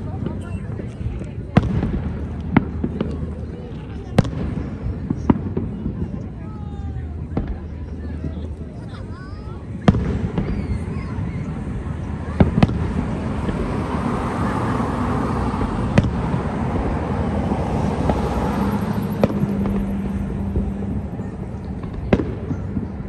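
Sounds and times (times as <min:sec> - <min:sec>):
fireworks bursting with sharp bangs: 0:00.0 - 0:23.0
outdoor background noise: 0:00.0 - 0:23.0.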